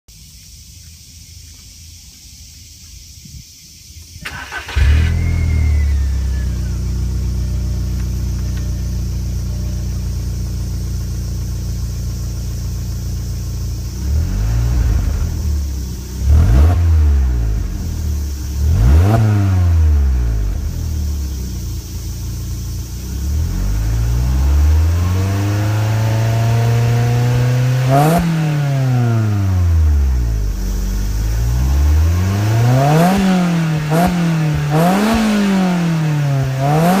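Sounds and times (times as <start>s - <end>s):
car engine starting and idling: 4.1s - 37.0s
car engine revving: 4.2s - 37.0s.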